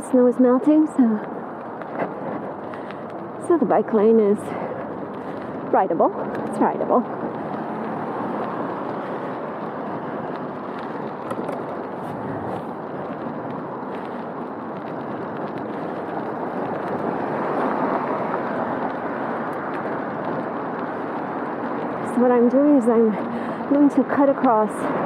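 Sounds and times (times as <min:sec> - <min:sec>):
bicycle tyres on pavement: 0:00.0 - 0:25.0
car traffic passing: 0:00.0 - 0:25.0
wind over microphone: 0:00.0 - 0:25.0.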